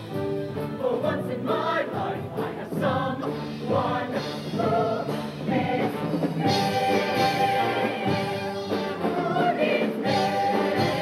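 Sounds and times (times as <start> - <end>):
band accompaniment: 0.0 - 11.0
choir singing: 0.6 - 11.0.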